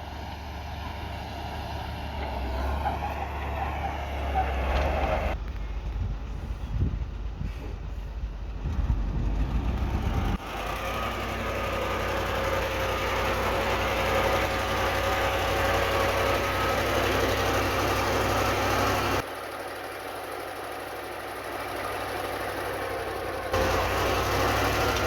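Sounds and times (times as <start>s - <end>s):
diesel machinery engine rumble: 0.0s - 25.0s.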